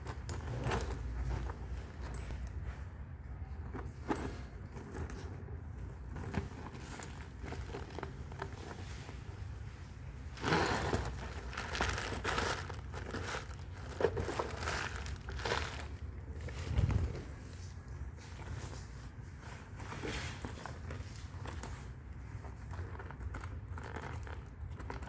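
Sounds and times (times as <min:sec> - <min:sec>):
handbag rustling: 0:00.0 - 0:03.0, 0:03.6 - 0:25.0.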